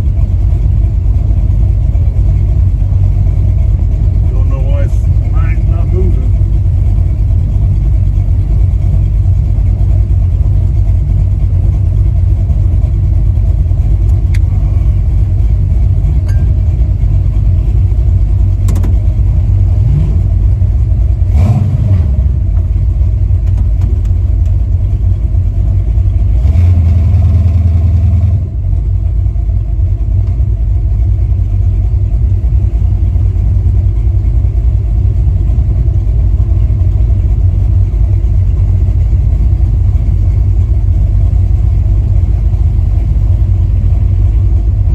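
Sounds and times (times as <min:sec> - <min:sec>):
truck engine rumbling: 0:00.0 - 0:44.9.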